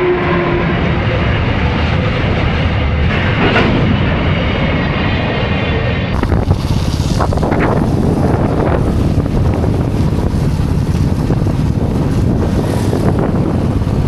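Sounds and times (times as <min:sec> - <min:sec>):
moving vehicle running: 0:00.0 - 0:14.0
wind rushing over microphone: 0:00.0 - 0:14.0.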